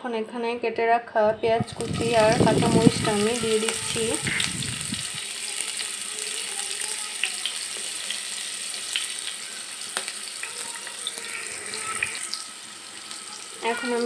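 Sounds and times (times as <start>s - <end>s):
onions sizzling in hot oil: 1.6s - 14.0s.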